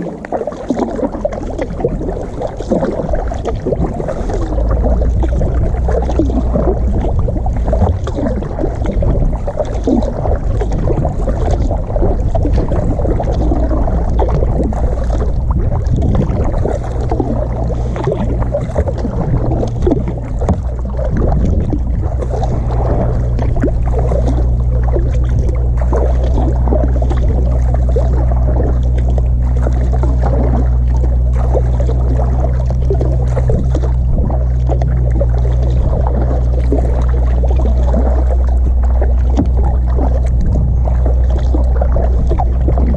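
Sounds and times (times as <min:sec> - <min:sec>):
low rumble: 0:00.0 - 0:42.9
water splashing around kayak: 0:00.0 - 0:42.9.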